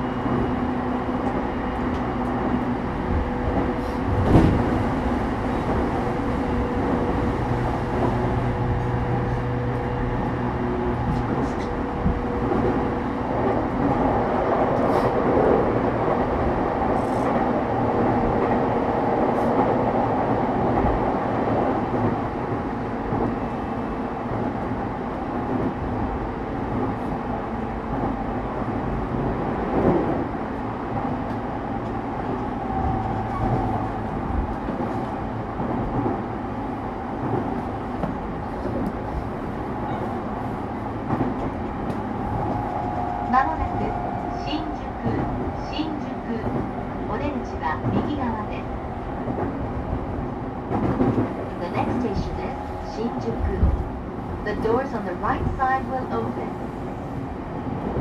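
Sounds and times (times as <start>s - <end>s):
wheels rumbling on rail: 0.0s - 58.0s.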